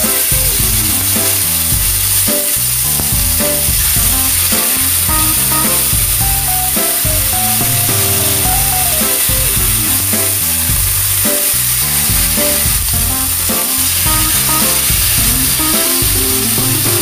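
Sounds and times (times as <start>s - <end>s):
background music: 0.0s - 17.0s
chicken wings sizzling in oil: 0.0s - 17.0s.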